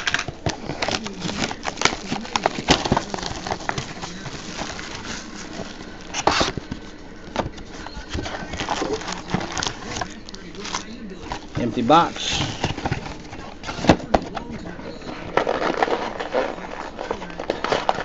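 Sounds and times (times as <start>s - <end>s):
plastic shrink wrap crinkling: 0.0s - 18.0s.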